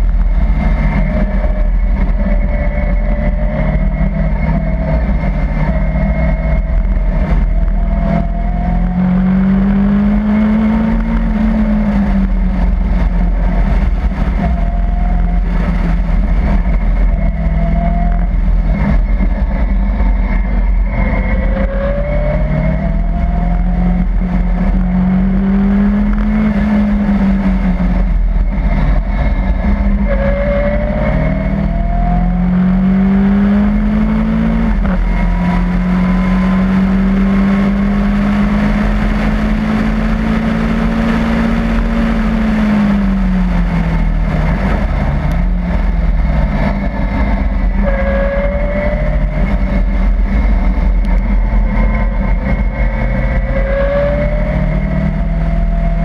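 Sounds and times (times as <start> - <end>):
rotary engine revving: 0.0 - 56.0
wind and road noise: 0.0 - 56.0.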